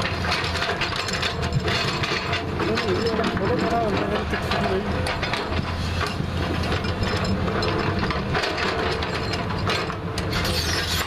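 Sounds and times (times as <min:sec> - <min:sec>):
diesel engine running: 0:00.0 - 0:11.0
digging gear clicks and knocks: 0:00.0 - 0:11.0.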